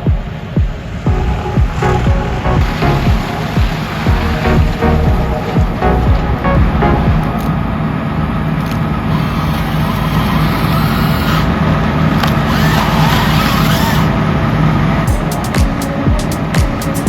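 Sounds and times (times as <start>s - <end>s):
large diesel engine running: 0.8s - 17.0s.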